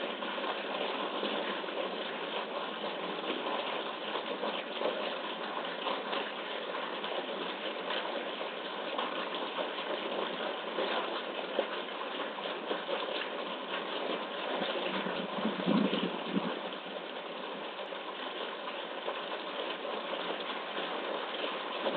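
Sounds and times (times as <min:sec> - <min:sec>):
pool pump water rushing: 0:00.0 - 0:21.9.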